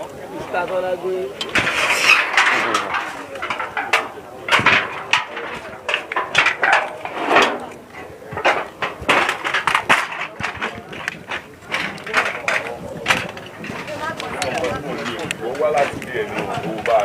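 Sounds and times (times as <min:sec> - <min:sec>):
people talking in background: 0:00.0 - 0:17.0.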